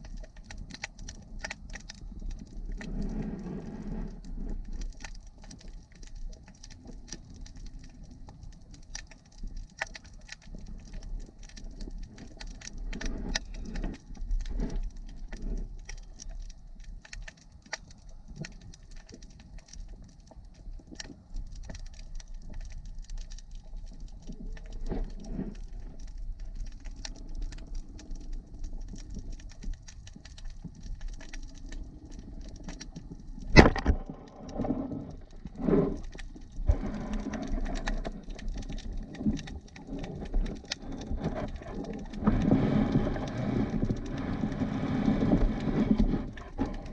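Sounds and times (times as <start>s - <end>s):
low water rumble: 0.0s - 46.9s
underwater clicks and crackling: 0.0s - 46.9s.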